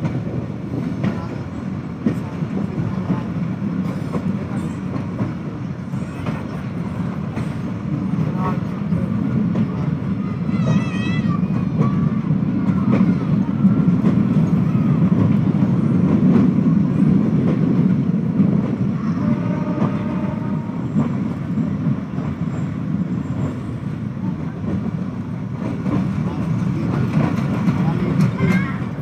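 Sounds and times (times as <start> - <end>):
train rumbling on track: 0.0 - 29.0.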